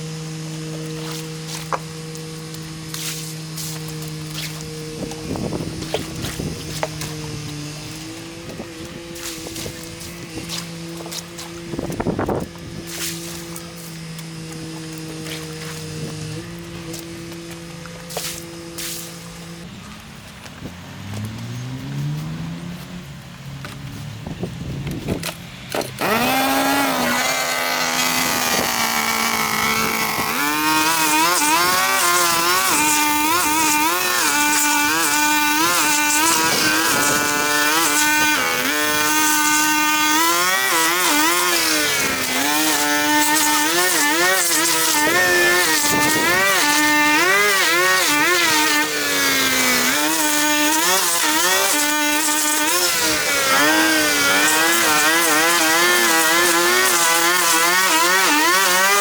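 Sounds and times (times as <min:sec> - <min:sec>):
small petrol engine revving: 0:00.0 - 0:19.9, 0:20.5 - 0:59.0.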